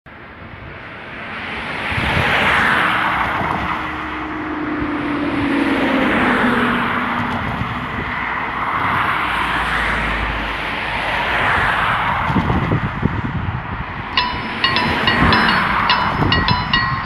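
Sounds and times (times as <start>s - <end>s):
cars driving by: 1.0s - 17.0s.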